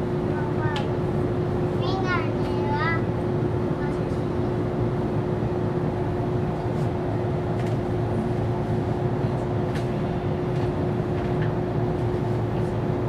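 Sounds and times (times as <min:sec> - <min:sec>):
tram equipment hum: 0:00.0 - 0:13.0.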